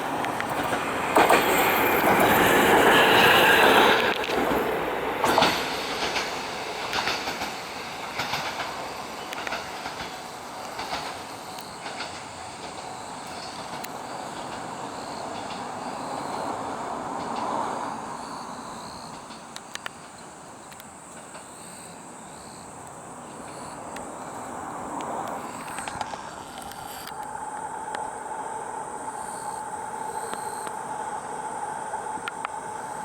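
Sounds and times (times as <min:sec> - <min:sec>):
train passing: 0:00.0 - 0:33.0.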